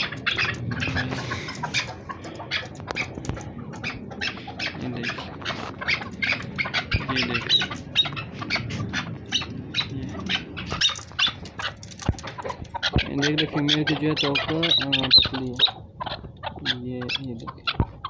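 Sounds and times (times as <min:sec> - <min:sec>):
partridges clucking: 0:00.0 - 0:18.0.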